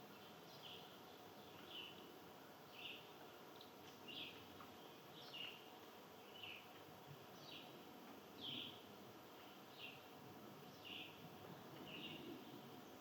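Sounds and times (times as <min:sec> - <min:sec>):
bird chirping: 0:00.0 - 0:07.8, 0:08.4 - 0:10.1, 0:10.7 - 0:13.0
low background hiss: 0:00.0 - 0:13.0.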